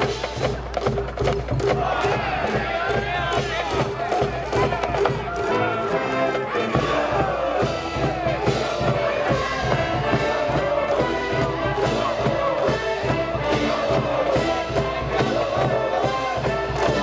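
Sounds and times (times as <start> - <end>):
steady drum beat: 0.0 - 17.0
brass band playing: 1.8 - 17.0.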